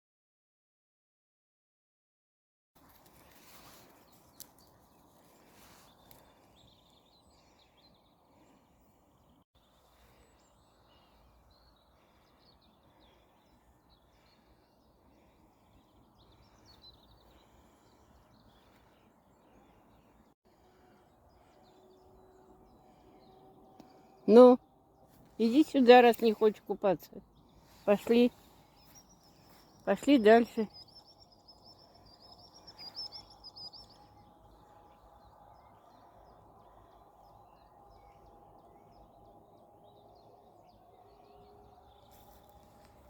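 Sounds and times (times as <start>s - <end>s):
distant birds singing: 2.8s - 43.0s.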